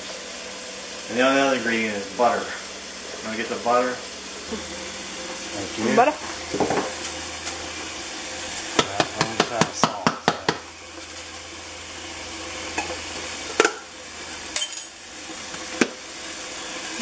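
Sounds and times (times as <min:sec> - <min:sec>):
tap water filling a pot: 0:00.0 - 0:17.0.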